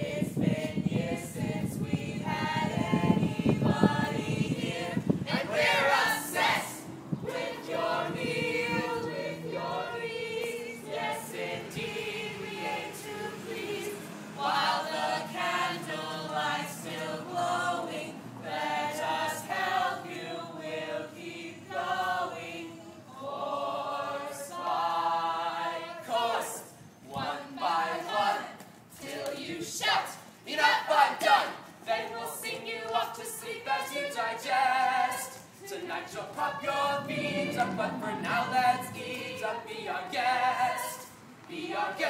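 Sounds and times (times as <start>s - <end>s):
group singing in chorus: 0.0s - 42.0s.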